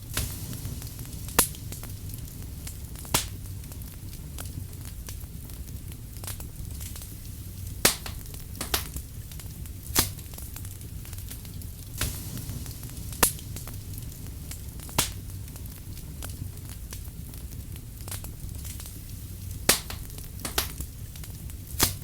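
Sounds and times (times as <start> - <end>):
firewood crackling and popping: 0.0 - 22.0
low rumble of fire: 0.0 - 22.0.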